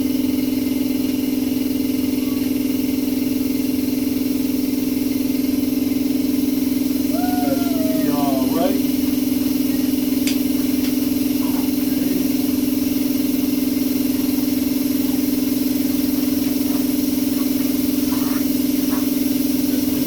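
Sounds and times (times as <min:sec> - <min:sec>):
air compressor droning: 0:00.0 - 0:20.0.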